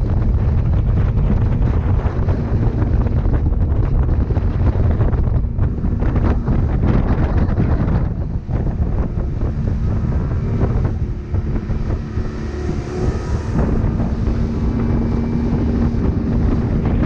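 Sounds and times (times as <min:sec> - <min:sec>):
boat engine drone: 0:00.0 - 0:17.0
wind buffeting microphone: 0:00.0 - 0:17.0.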